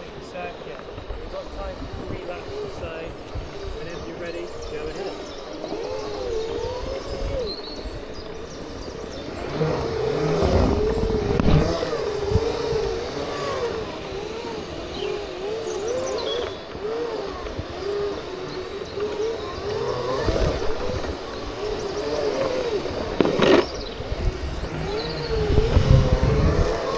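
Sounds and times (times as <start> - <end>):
electric motor whine: 0.0 - 26.9.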